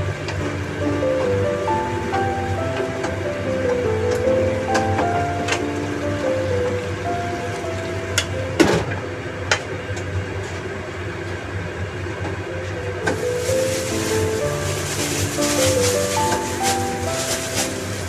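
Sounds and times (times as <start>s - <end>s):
soft background music: 0.0s - 9.4s, 12.4s - 18.0s.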